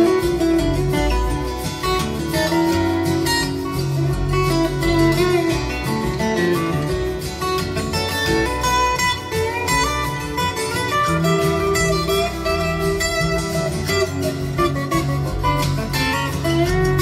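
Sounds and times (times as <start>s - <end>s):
bass: 0.0s - 17.0s
lead guitar bending notes: 0.0s - 17.0s
steady beat: 0.0s - 17.0s.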